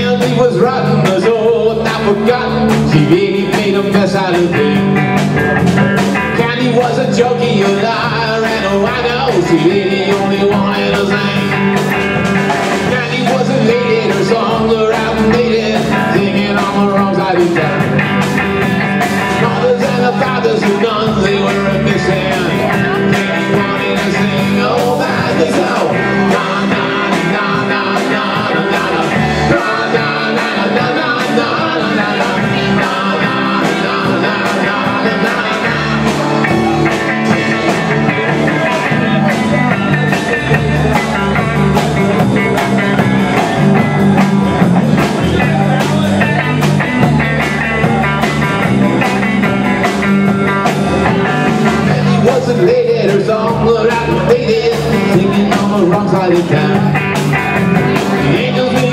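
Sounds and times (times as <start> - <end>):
bass guitar: 0.0 - 58.9
drum beat: 0.0 - 58.9
electric guitar: 0.0 - 58.9.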